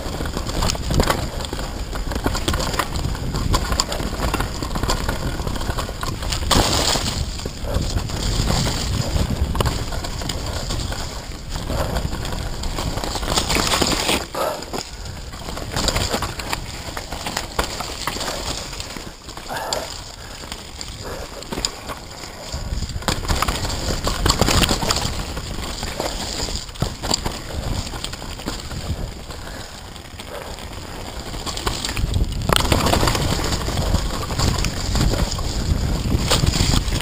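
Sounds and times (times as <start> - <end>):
bike chain and frame rattling: 0.0 - 37.0
tyres on loose dirt: 0.0 - 37.0
wind buffeting the microphone: 0.0 - 37.0.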